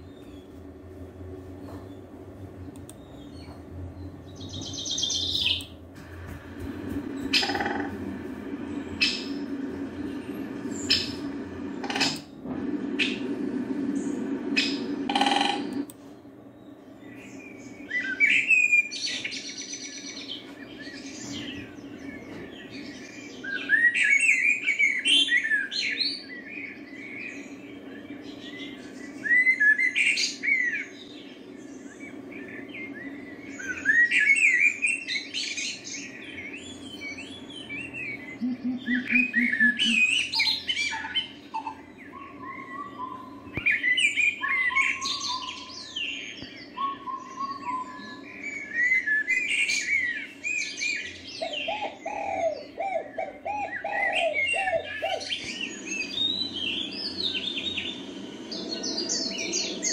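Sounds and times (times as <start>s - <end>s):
steady low hum: 0.0s - 59.9s
wild birds chirping: 0.0s - 59.9s.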